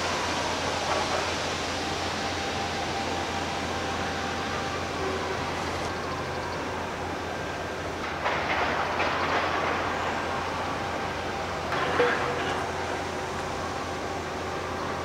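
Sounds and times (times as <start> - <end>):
low traffic hum: 0.0 - 15.0.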